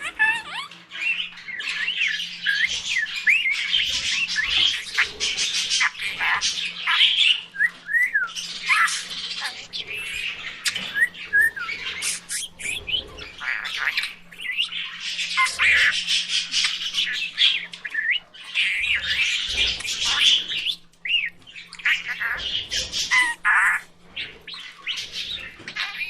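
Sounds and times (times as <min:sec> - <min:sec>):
budgerigars chattering and chirping: 0:00.0 - 0:26.0.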